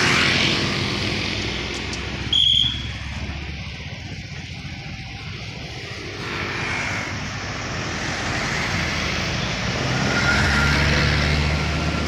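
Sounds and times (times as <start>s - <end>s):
pickup truck engine drone: 0.0s - 12.0s
road traffic passing: 0.0s - 12.0s.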